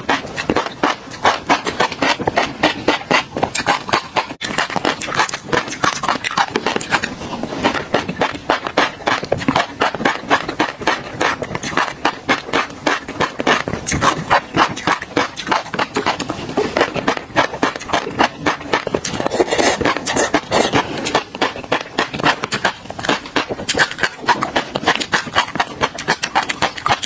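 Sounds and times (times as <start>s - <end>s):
crunchy chewing of fish roe: 0.0s - 27.0s.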